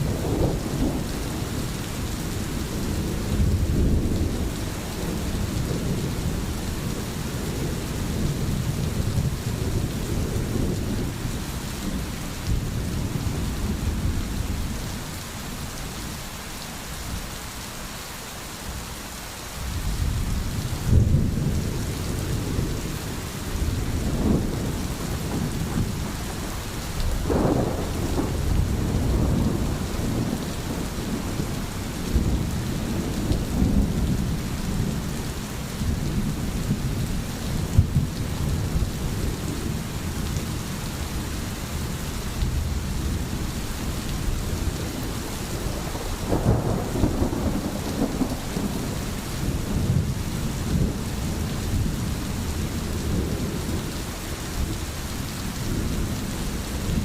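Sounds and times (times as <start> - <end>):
low thunder rumbling: 0.0 - 15.1, 19.7 - 54.8
steady rain falling: 0.0 - 57.0.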